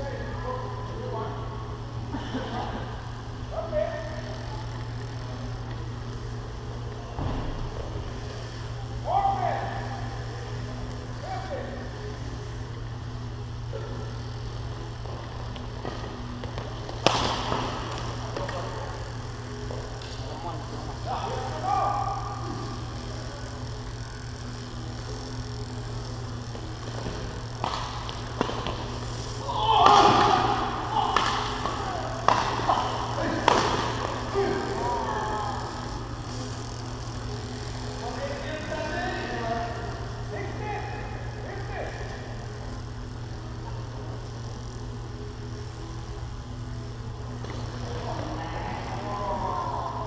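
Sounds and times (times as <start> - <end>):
indoor hall hum: 0.0 - 50.0.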